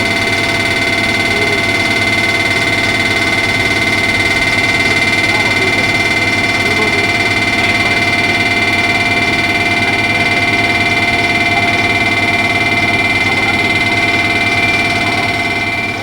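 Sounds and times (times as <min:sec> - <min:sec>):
high whining tones: 0:00.0 - 0:16.0
train machine noise: 0:00.0 - 0:16.0.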